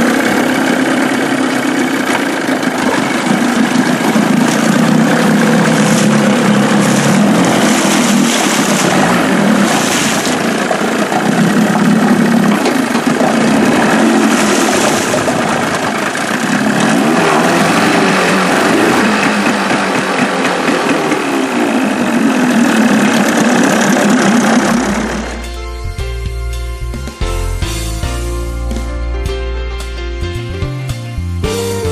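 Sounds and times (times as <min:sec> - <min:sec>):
outboard motor running: 0:00.0 - 0:26.5.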